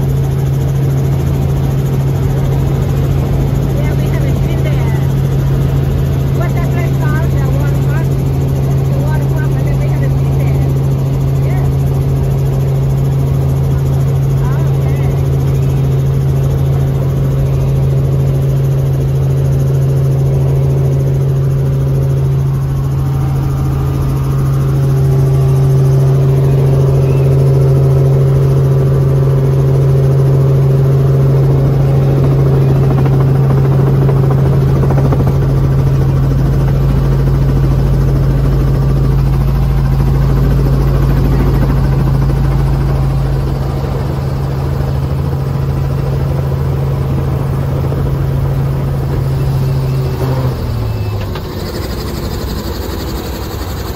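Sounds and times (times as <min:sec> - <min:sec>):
helicopter engine and rotors droning: 0:00.0 - 0:53.9.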